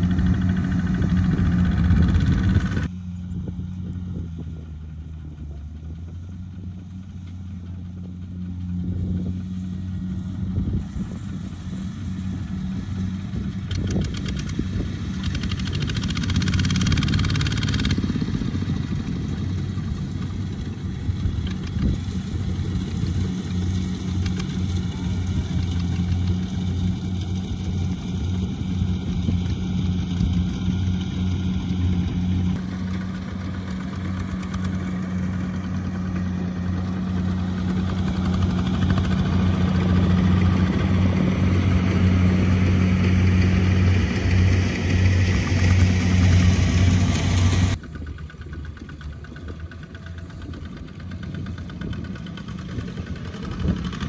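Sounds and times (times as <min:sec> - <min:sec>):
walking tractor diesel engine running: 0:00.0 - 0:54.0.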